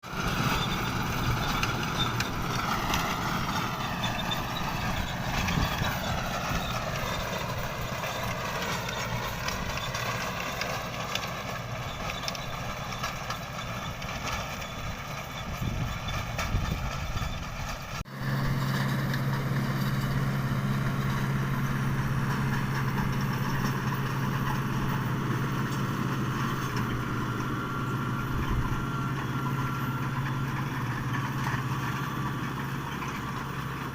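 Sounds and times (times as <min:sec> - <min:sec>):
engine droning at even pitch: 0:00.0 - 0:33.9
tractor engine running: 0:00.0 - 0:33.9.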